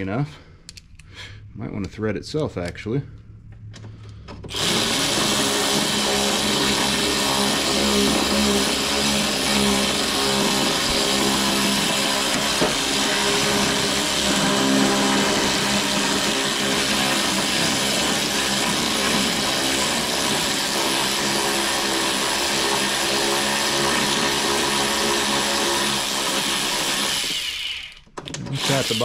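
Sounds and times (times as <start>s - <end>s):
electric ratchet motor whirring: 4.5s - 29.0s.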